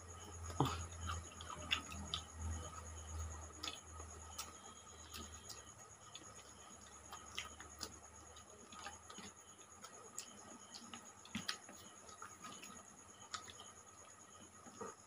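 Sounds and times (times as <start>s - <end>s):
faint steady high tone: 0.0s - 15.0s
people eating by hand: 0.1s - 15.0s.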